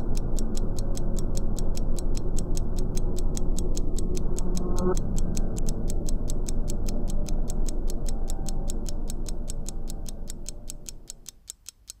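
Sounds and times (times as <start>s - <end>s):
dense low drone: 0.0s - 11.3s
rapid even ticking: 0.0s - 12.0s.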